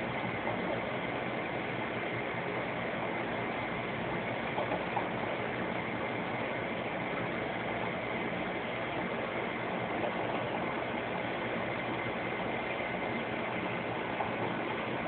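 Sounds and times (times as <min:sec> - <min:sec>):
aquarium pumps humming: 0:00.0 - 0:15.0
circulating water hiss: 0:00.0 - 0:15.0.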